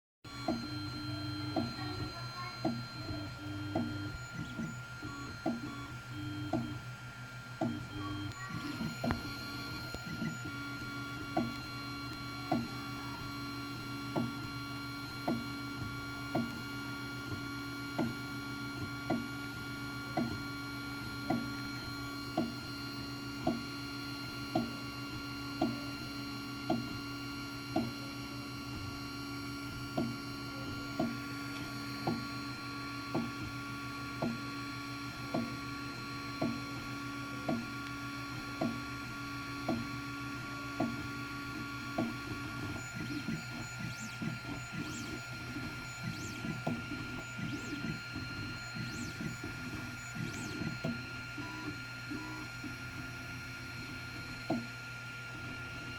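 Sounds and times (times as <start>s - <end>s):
printer motors and fans humming: 0.3s - 55.9s.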